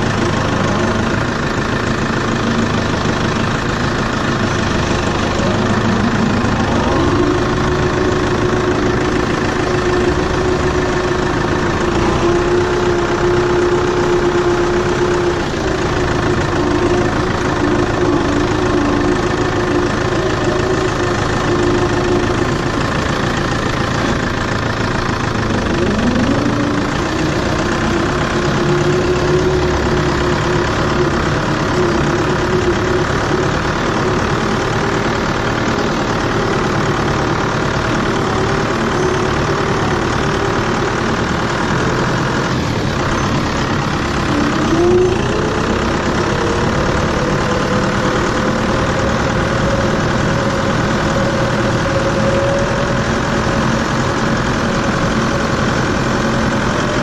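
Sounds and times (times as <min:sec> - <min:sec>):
tractor engine revving: 0:00.0 - 0:57.0.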